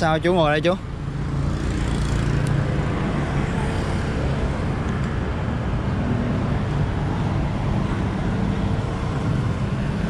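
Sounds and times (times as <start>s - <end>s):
highway traffic: 0.0s - 10.0s.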